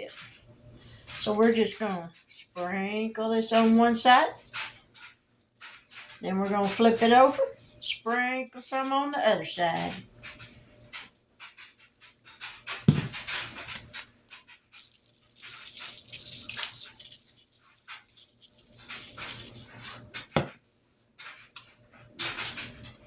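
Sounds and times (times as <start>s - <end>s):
seasoning shaker rattling: 0.0s - 20.5s.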